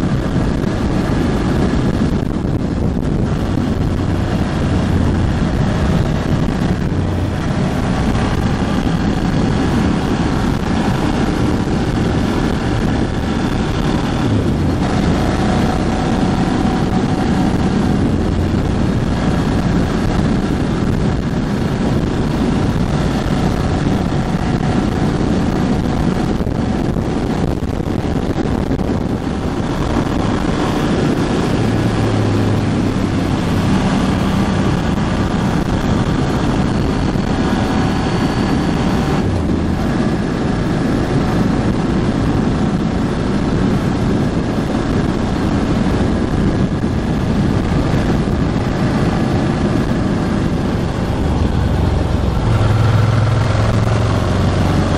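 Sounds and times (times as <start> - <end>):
motorcycle engine running: 0.0 - 54.9
wind noise on microphone: 0.0 - 54.9.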